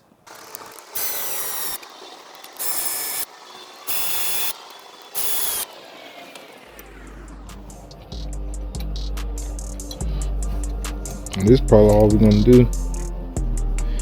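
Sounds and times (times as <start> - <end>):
ratchet clicking: 0.3 - 3.3, 3.9 - 13.1
background music: 1.5 - 14.0.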